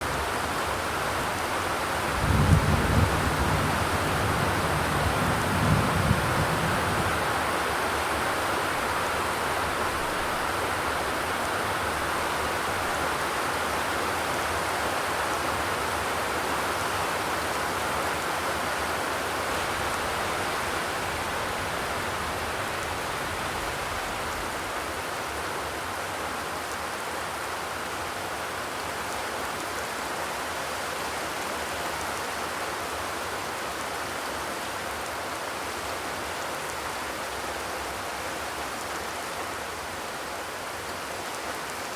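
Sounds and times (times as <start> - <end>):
rain on a metal roof: 0.0 - 41.9.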